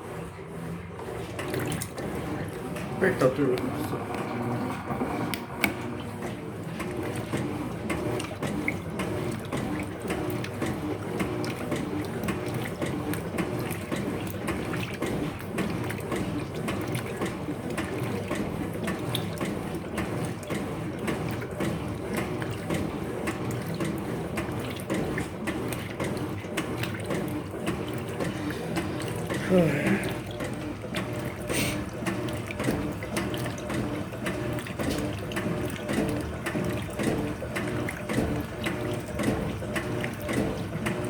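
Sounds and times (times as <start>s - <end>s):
washing machine churning water: 0.0s - 41.0s.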